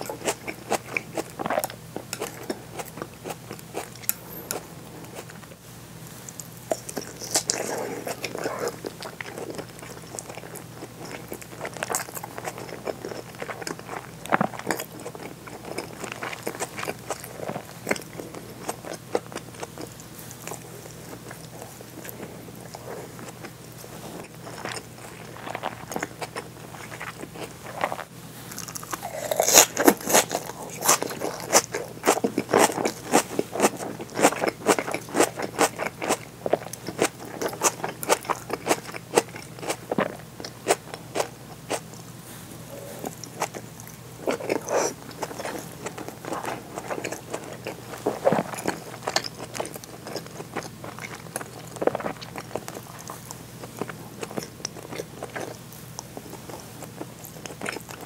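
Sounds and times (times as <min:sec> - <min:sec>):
chewing and crunching: 0:00.0 - 0:05.5, 0:06.2 - 0:58.0.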